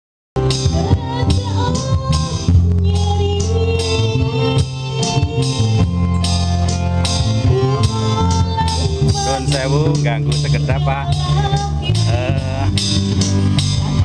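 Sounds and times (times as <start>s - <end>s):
background music with steady beat: 0.4s - 14.0s.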